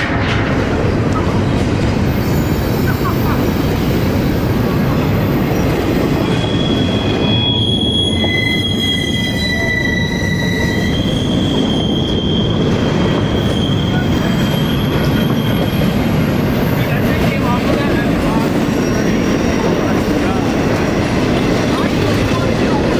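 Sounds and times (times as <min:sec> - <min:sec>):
train rumbling past: 0:00.0 - 0:22.9
wheel squeal on rail: 0:01.1 - 0:22.9.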